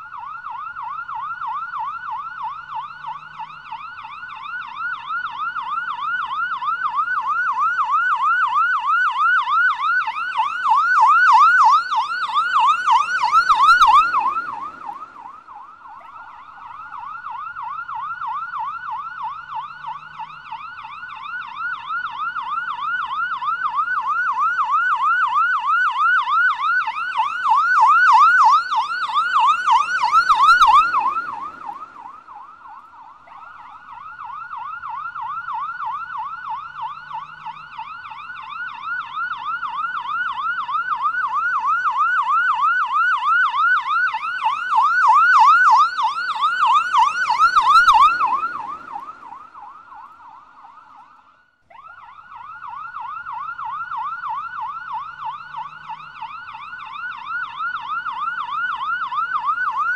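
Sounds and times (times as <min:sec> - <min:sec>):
police siren yelp: 0:00.0 - 0:59.9.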